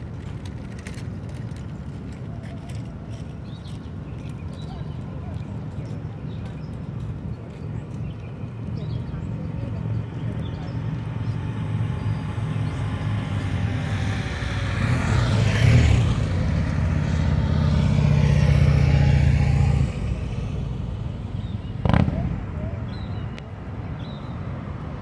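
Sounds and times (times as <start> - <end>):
motorcycles passing: 0.0 - 25.0.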